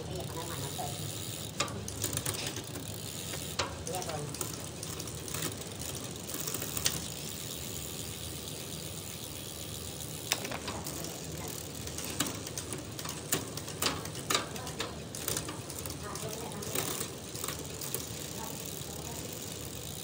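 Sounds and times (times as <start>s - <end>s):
bicycle chain whirring: 0.0s - 20.0s.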